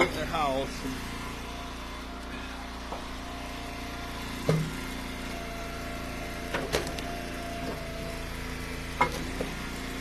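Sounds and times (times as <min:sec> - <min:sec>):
wood splitter engine running: 0:00.0 - 0:10.0.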